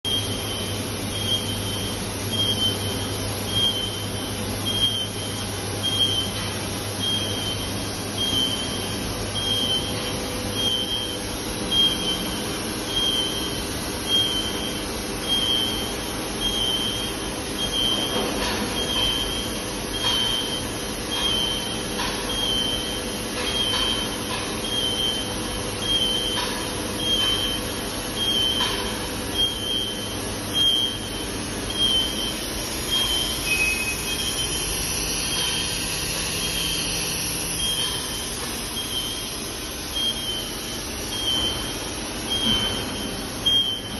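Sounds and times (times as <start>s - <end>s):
high electronic warning beep: 0.1s - 43.9s
machinery running: 0.1s - 43.9s.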